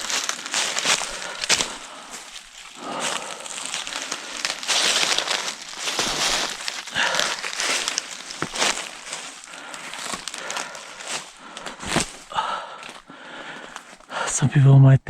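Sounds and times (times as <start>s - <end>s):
footsteps crunching dry leaves: 0.0s - 14.1s
twigs snapping: 0.0s - 14.1s.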